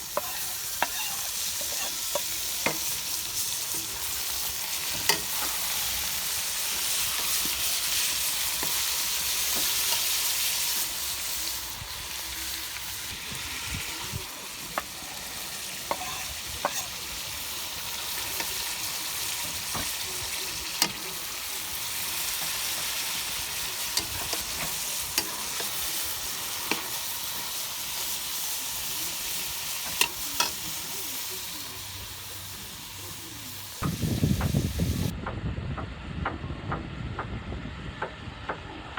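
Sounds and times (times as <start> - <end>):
food sizzling in hot oil: 0.0 - 35.1.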